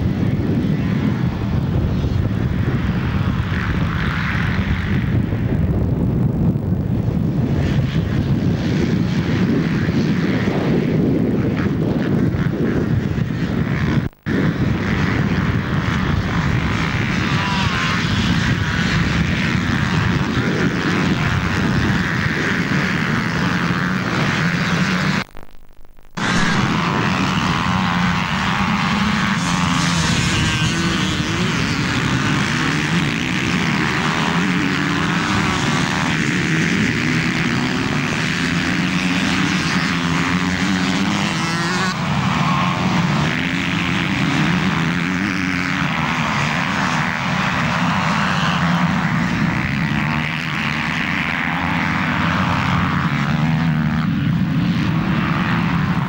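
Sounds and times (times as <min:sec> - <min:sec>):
motocross bike engines racing: 0:00.0 - 0:25.4, 0:26.0 - 0:56.0.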